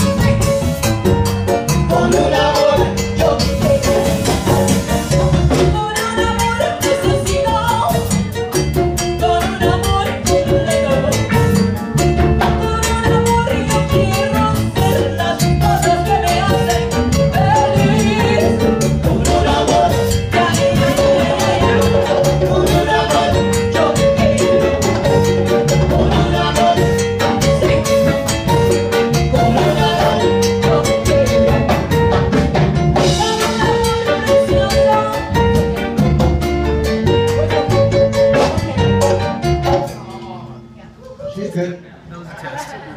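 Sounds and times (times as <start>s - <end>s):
drums and percussion: 0.0s - 40.7s
salsa band playing: 0.0s - 42.9s.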